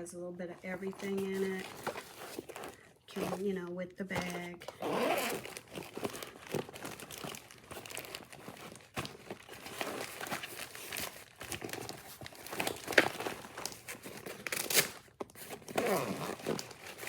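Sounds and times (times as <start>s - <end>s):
packaging rustling and crinkling: 0.6s - 3.5s, 4.1s - 17.0s.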